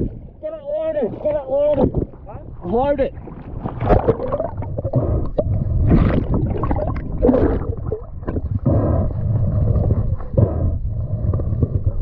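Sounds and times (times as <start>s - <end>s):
muffled underwater water rushing: 0.0s - 12.0s.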